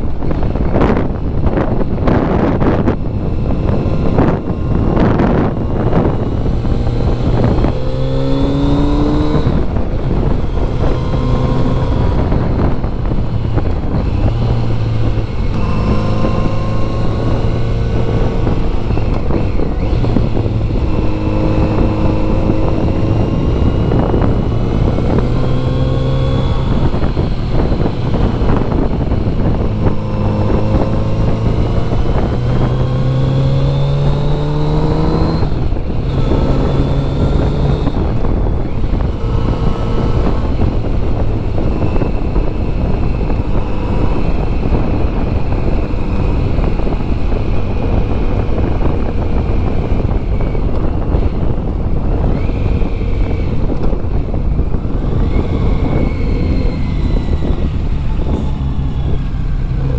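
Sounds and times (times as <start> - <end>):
motorcycle engine revving: 0.0 - 59.9
wind rush over microphone: 0.0 - 59.9.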